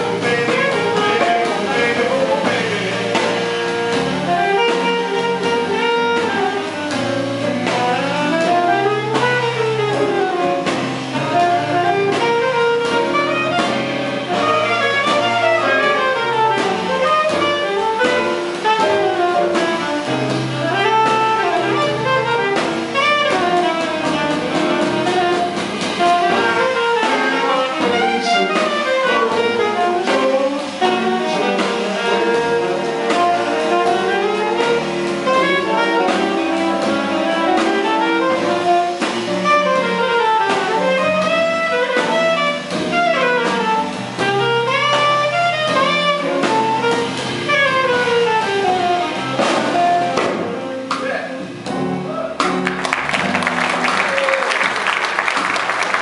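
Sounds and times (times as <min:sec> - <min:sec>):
alto saxophone solo: 0:00.0 - 0:56.0
drum kit: 0:00.0 - 0:56.0
piano: 0:00.0 - 0:56.0
upright bass: 0:00.0 - 0:56.0.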